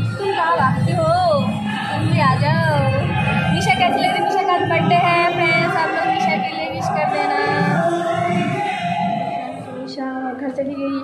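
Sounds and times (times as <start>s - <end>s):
song with sung vocal: 0.0s - 10.9s.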